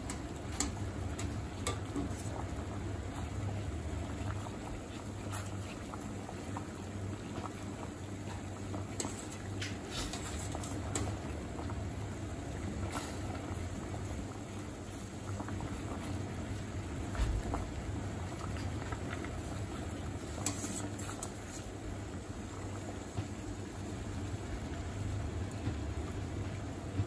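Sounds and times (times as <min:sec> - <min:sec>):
water boiling in a pot: 0:00.0 - 0:27.0.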